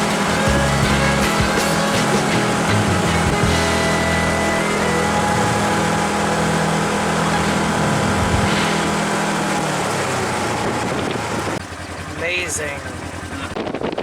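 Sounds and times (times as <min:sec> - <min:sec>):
atv engine running: 0:00.0 - 0:14.0
wind: 0:00.0 - 0:14.0.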